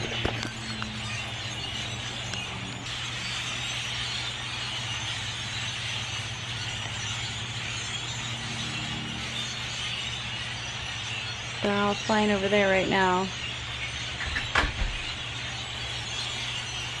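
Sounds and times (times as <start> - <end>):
flock of birds chattering: 0.0 - 17.0
steady low hum: 0.0 - 17.0.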